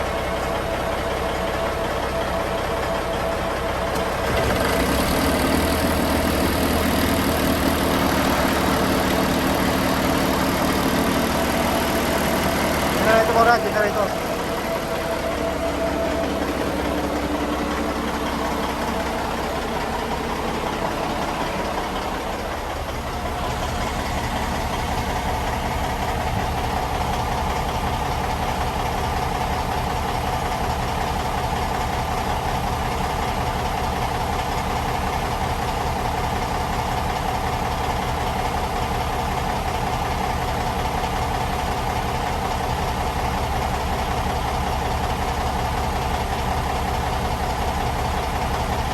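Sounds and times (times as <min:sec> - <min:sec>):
diesel generator engine running: 0:00.0 - 0:48.9.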